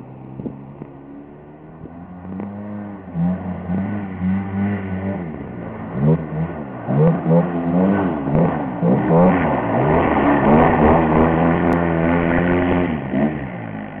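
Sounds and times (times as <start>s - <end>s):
engine revving: 0.0s - 14.0s.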